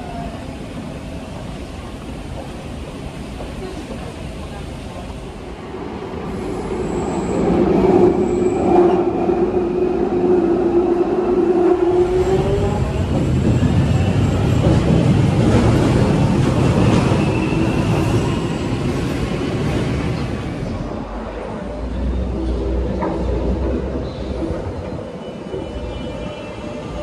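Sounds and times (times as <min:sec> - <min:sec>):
train rumble and hiss at platform: 0:00.0 - 0:27.0.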